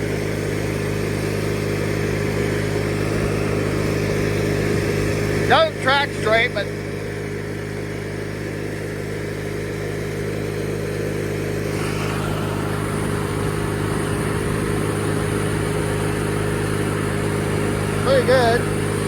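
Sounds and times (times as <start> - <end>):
riding lawnmower engine running: 0.0 - 19.0.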